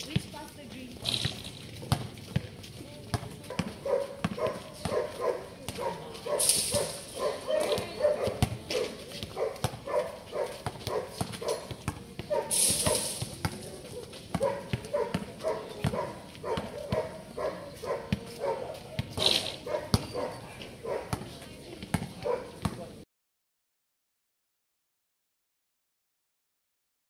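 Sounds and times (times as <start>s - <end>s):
basketballs bouncing on concrete: 0.0s - 23.0s.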